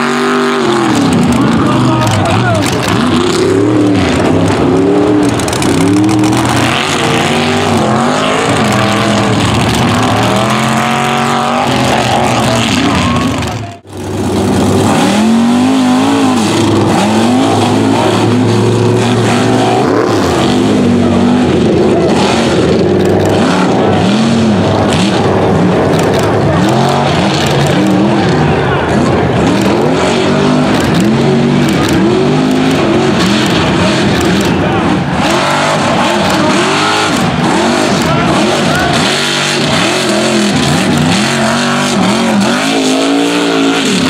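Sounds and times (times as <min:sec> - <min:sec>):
truck engines revving: 0:00.0 - 0:44.0.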